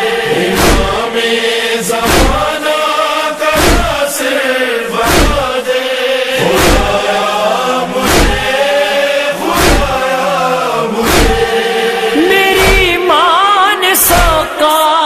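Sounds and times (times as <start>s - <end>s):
rhythmic chest-beating thumps: 0.0s - 13.1s
chorus of voices chanting: 0.0s - 14.8s.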